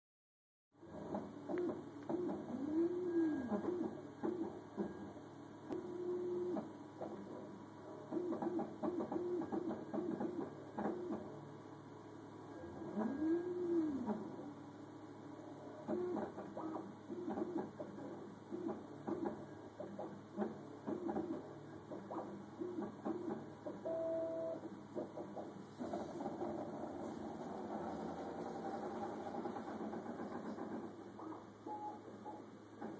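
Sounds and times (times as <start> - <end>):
printer motor whirs: 0.8 - 14.6, 15.3 - 32.9
printer low hum: 0.8 - 32.9.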